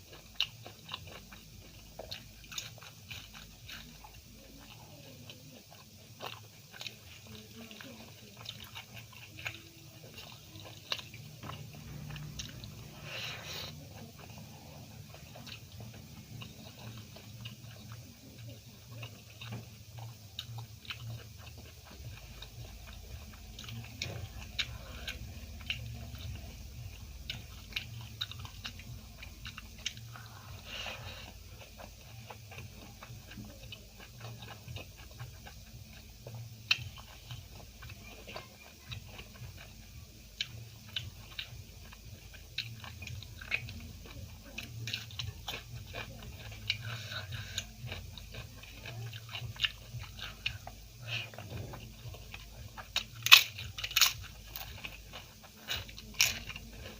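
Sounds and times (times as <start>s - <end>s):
close-up chewing and biting: 0.0s - 56.9s.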